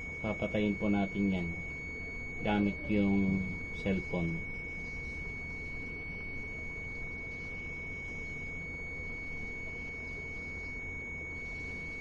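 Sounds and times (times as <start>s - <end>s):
continuity beeper steady tone: 0.0s - 12.0s.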